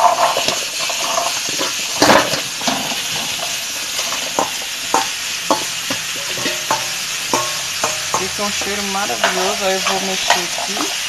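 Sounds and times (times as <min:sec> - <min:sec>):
sizzling in frying pan: 0:00.0 - 0:11.0
vegetable cubes clattering into pan: 0:00.0 - 0:11.0.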